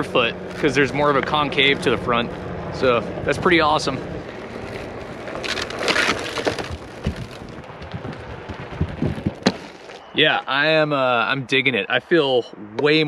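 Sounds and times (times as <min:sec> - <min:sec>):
tire rolling over wooden planks: 0:00.0 - 0:11.6.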